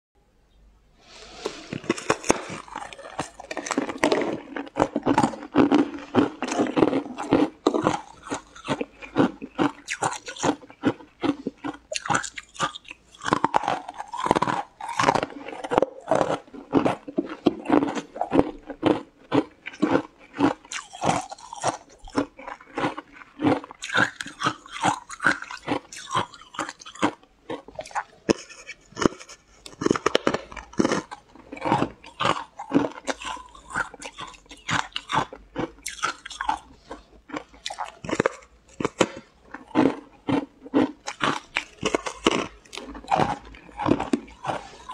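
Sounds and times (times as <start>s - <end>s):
crunching and chewing frozen food: 1.0s - 44.9s.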